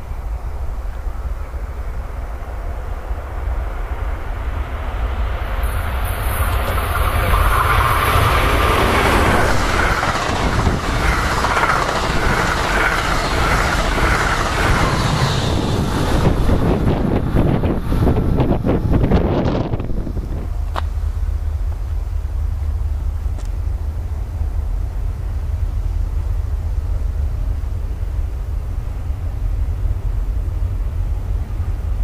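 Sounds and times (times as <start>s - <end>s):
train passing at speed: 0.0s - 32.0s.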